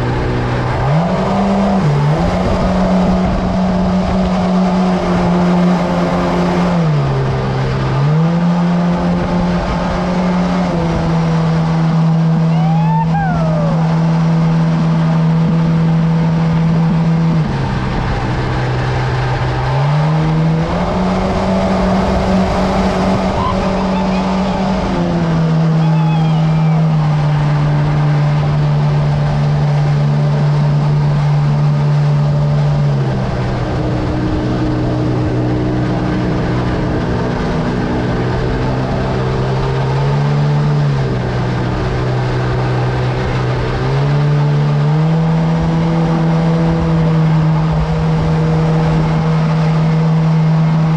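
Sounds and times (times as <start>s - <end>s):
boat motor running: 0.0s - 50.9s.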